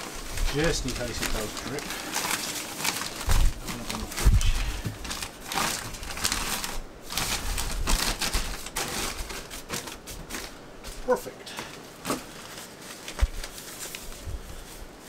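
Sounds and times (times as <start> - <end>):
plastic sheet crinkling: 0.0 - 15.0.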